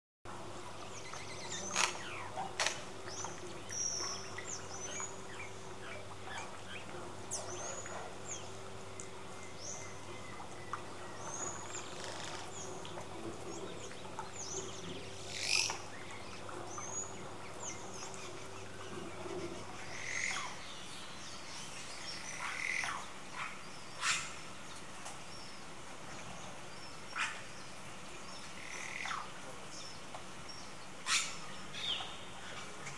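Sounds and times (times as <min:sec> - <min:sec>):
faint steady low hum: 0:00.3 - 0:32.9.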